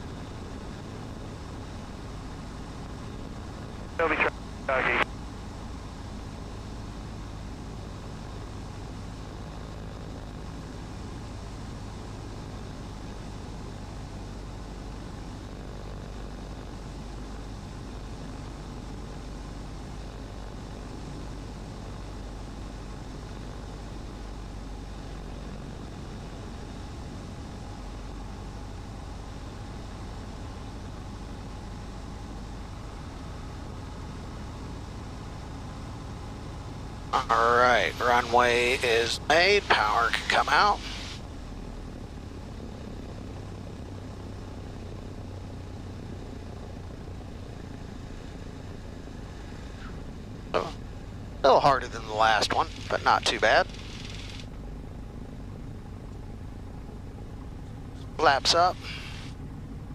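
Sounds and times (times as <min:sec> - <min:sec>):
light aircraft engine and propeller drone: 0:00.0 - 0:59.9.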